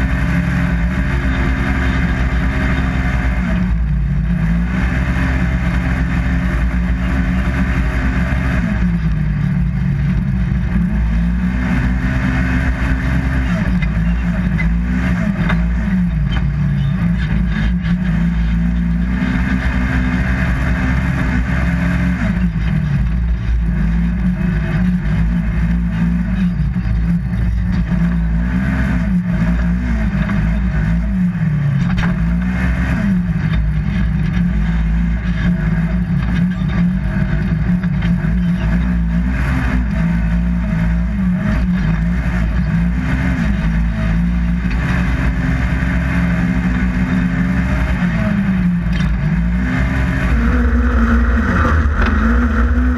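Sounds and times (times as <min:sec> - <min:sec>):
engine revving while racing: 0:00.0 - 0:52.9.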